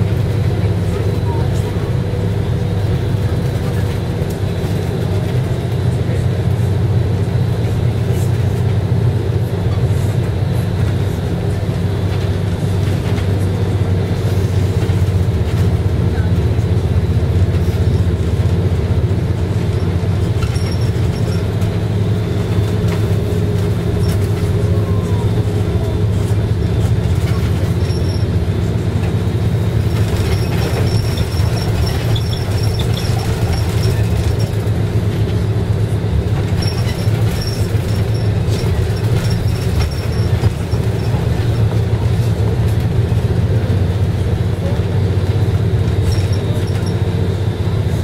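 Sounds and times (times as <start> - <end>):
bus engine drone: 0.0 - 48.0.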